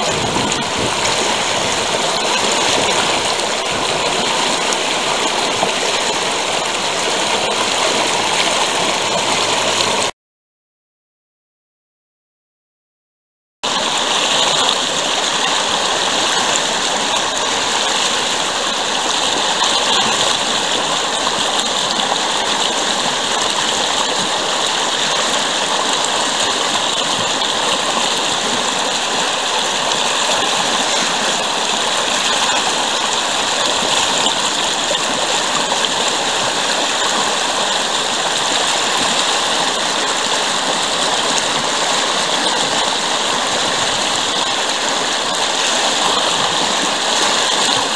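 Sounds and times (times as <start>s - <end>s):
stream water rushing over rocks: 0.0s - 10.1s, 13.6s - 47.9s.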